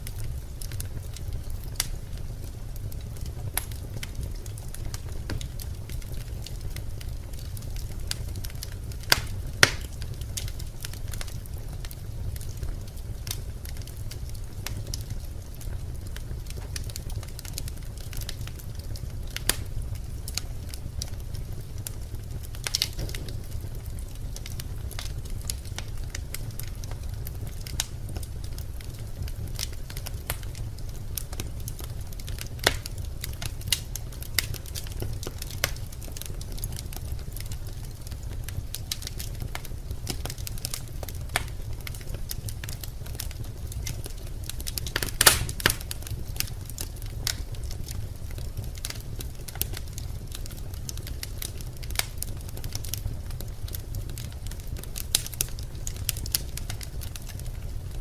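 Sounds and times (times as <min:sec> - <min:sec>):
logs crackling and popping in fire: 0:00.0 - 0:58.0
low rumble of flames: 0:00.0 - 0:58.0.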